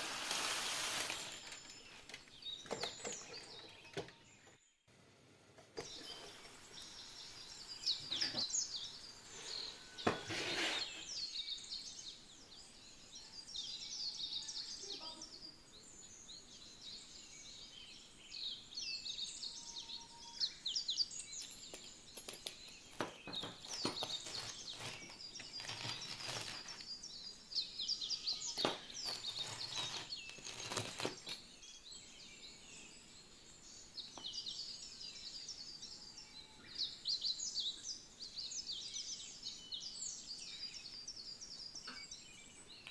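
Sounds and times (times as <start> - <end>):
small birds chirping: 0.0 - 4.9, 5.6 - 42.9.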